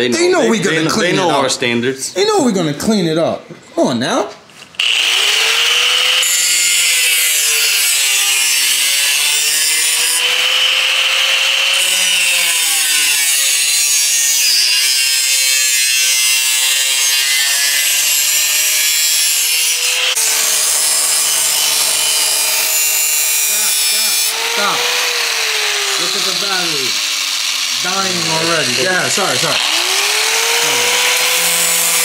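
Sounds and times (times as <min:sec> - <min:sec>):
angle grinder grinding metal: 0:04.8 - 0:32.0.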